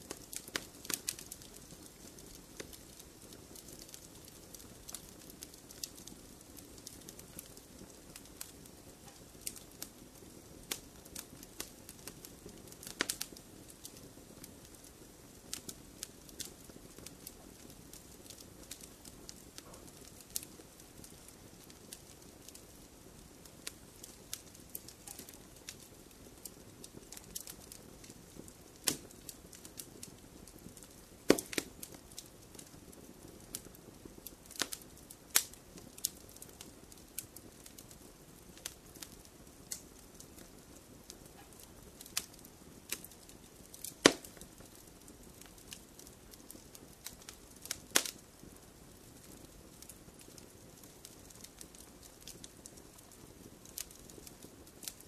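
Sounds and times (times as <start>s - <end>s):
fire crackling and popping: 0.0s - 55.0s
soft low hiss: 0.0s - 55.0s.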